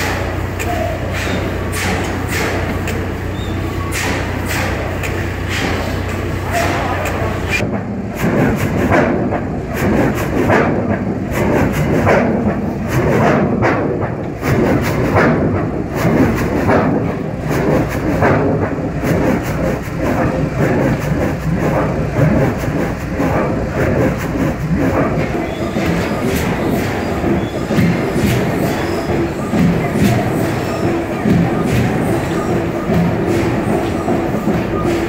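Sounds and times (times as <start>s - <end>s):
engine exhaust chuffing: 0.0s - 35.0s.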